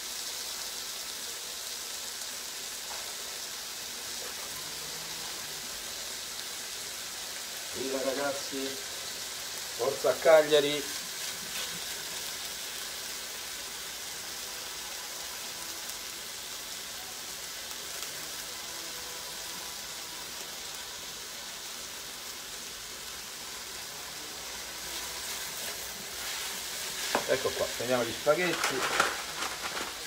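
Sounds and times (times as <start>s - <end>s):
vegetables sizzling in a pan: 0.0s - 30.0s.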